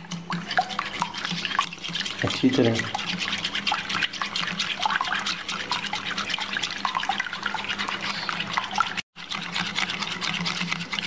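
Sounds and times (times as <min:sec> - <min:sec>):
liquid egg sloshing: 0:00.0 - 0:11.0
whisk clinking against glass bowl: 0:00.0 - 0:11.0.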